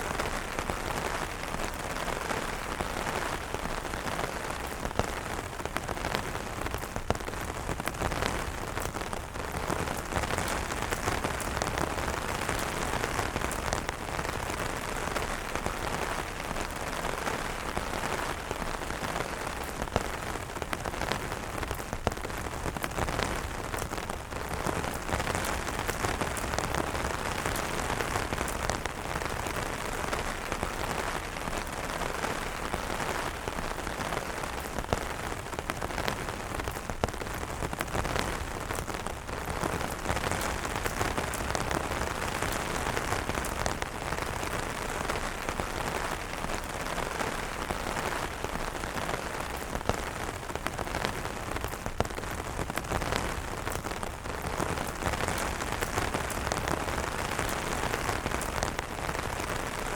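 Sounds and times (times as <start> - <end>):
rain on umbrellas: 0.0 - 59.9.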